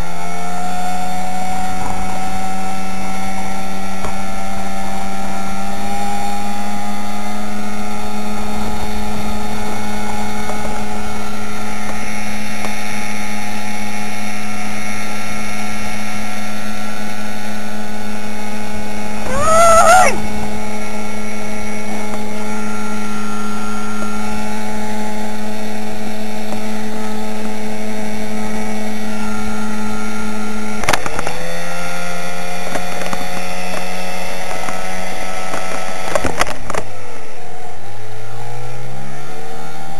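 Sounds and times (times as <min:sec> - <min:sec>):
motorboat engine running: 0:00.1 - 0:19.3, 0:20.2 - 0:39.9.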